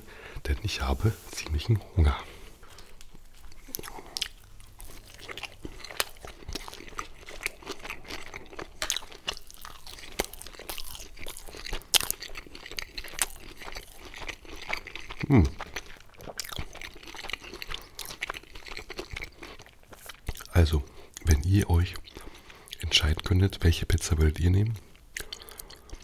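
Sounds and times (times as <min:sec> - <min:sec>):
person chewing crunchy pizza crust: 0:01.4 - 0:26.0.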